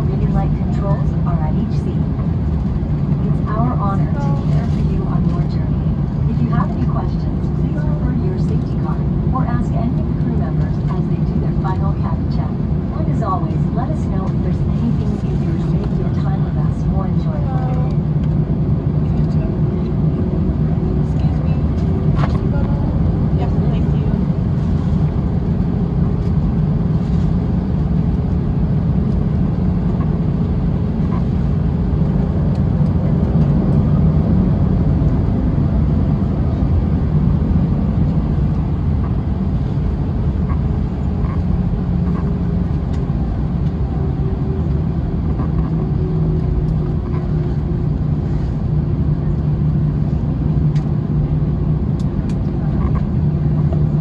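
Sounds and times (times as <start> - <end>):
jet engines idling: 0.0 - 54.0
low hum: 0.0 - 54.0.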